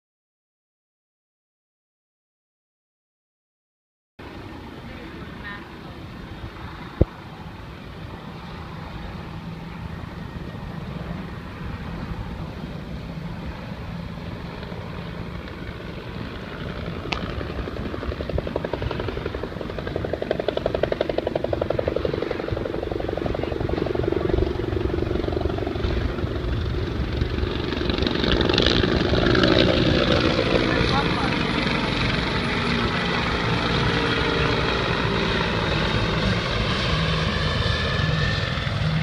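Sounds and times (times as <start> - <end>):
helicopter rotor chop: 4.3 - 39.0.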